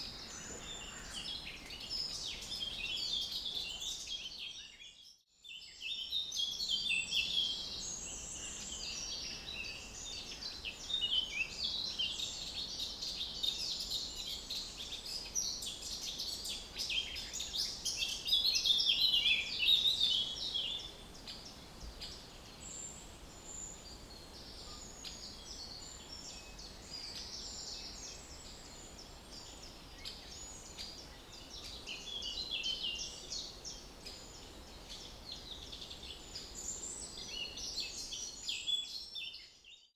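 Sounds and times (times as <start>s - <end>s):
faint background noise: 0.0s - 4.6s, 5.4s - 39.8s.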